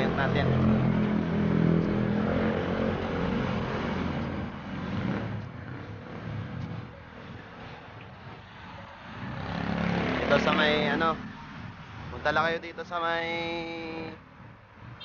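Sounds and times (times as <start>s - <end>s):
background traffic noise: 0.0s - 15.0s.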